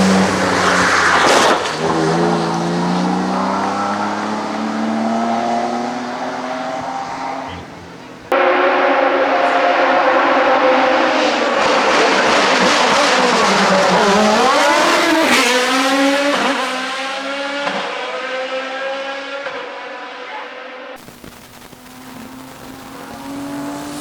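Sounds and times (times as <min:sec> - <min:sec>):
racing car engine at high revs: 0:00.0 - 0:24.0.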